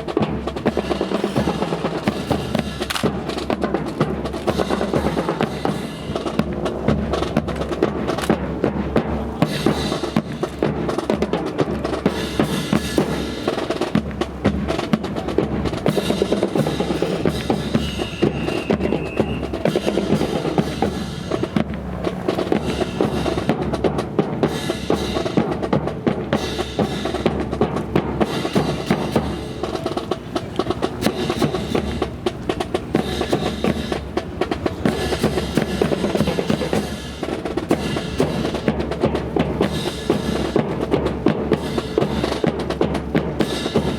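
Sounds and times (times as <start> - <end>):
snare drum rolls: 0.0 - 43.9.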